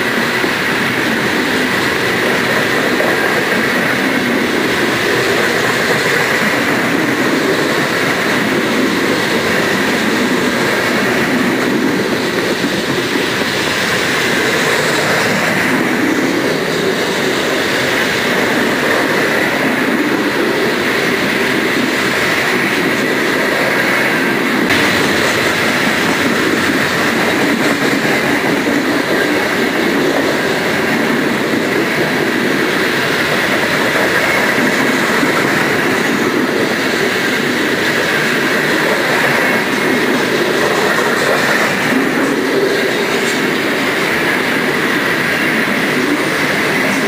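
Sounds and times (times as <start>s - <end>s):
steel wheels rolling on rails: 0.0s - 47.0s.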